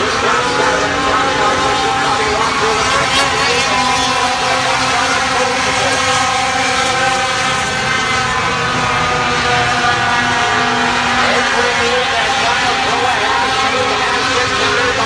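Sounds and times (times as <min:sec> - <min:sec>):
racing truck engines running: 0:00.0 - 0:15.0.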